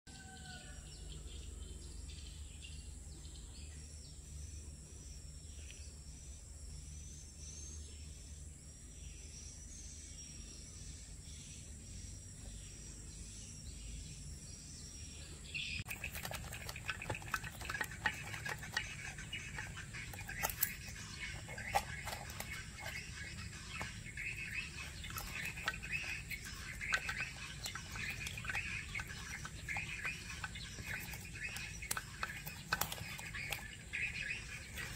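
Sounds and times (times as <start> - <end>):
birds chirping: 0.1 - 34.9
low steady hum: 0.4 - 34.9.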